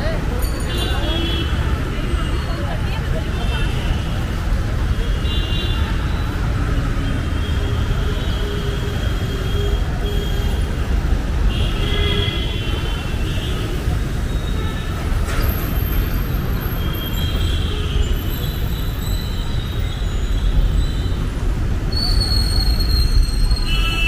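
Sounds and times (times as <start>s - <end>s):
rumble of moving vehicles: 0.0s - 24.0s.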